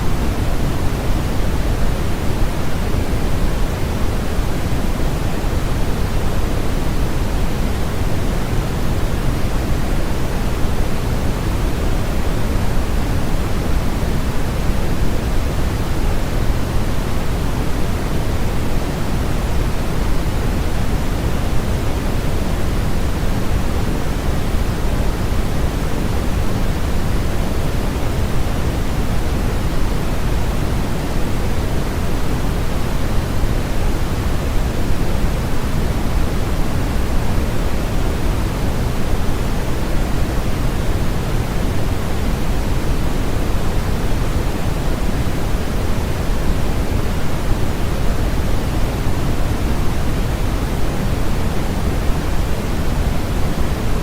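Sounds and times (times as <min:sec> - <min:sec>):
steady synthetic pink noise: 0:00.0 - 0:54.0.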